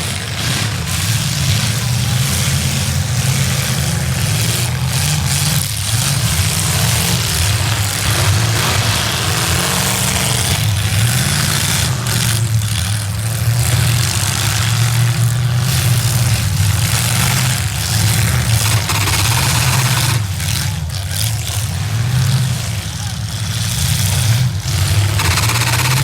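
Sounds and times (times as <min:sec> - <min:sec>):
loud car engines revving: 0:00.0 - 0:26.0.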